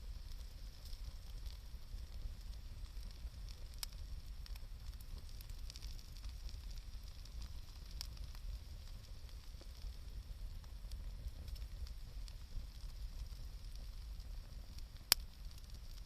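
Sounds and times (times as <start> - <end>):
campfire crackling and popping: 0.0 - 16.0
low rumble of fire: 0.0 - 16.0.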